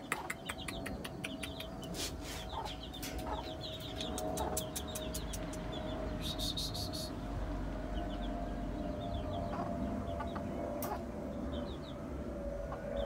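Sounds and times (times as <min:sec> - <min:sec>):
chickens chirping and clucking: 0:00.0 - 0:12.0, 0:12.6 - 0:13.0
faint steady hum: 0:00.0 - 0:13.0.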